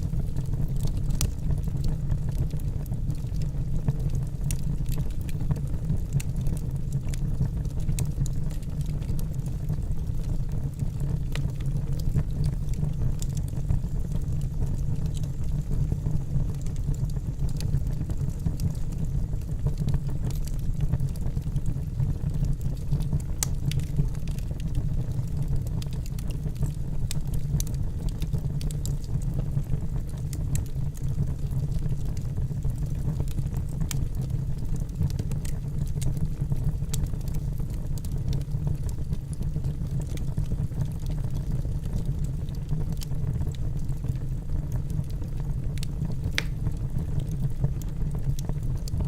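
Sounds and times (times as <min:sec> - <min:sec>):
fire flames rumbling: 0:00.0 - 0:49.0
logs crackling and popping: 0:00.0 - 0:49.0.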